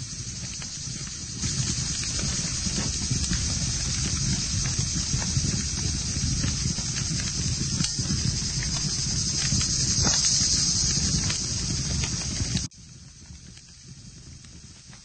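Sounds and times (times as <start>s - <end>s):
low rush of flames: 0.0s - 15.0s
wood crackling and popping: 0.0s - 15.0s.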